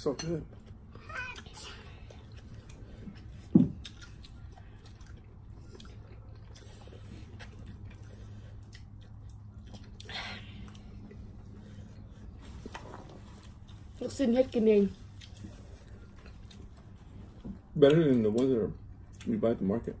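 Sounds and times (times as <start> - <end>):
people chewing and eating: 0.0 - 20.0.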